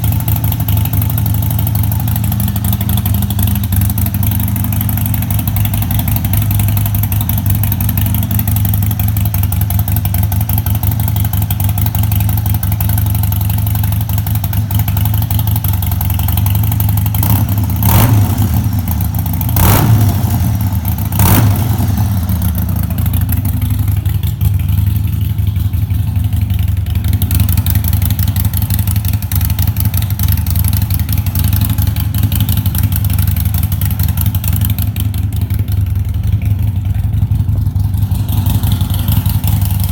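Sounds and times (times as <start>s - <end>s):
motorcycle engine idling loudly: 0.0s - 39.9s.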